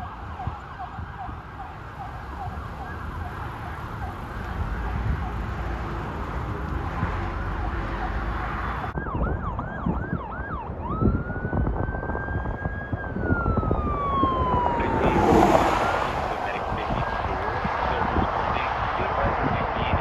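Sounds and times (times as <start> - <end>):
ambulance siren: 0.0 - 18.9
road noise: 0.0 - 20.0.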